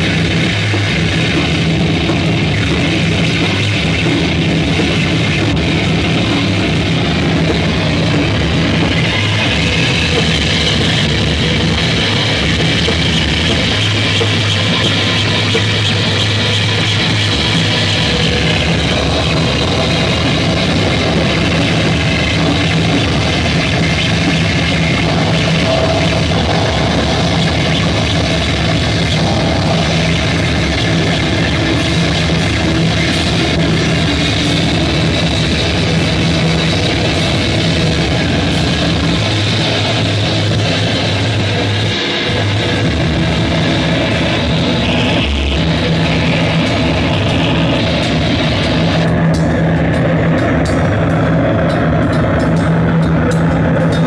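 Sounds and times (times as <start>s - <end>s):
distorted noise music: 0.0s - 54.0s
low droning tones: 0.0s - 54.0s.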